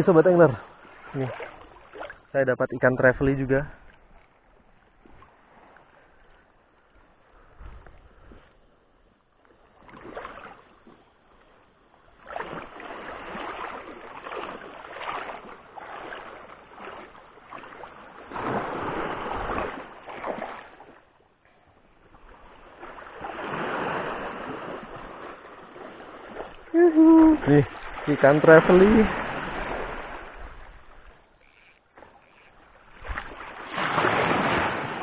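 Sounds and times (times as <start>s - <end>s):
seawater sloshing and splashing: 0.6s - 2.4s, 8.0s - 35.0s.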